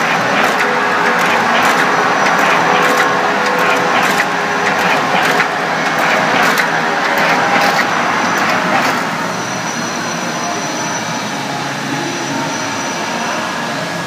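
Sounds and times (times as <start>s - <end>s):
industrial machinery running: 0.0s - 14.0s.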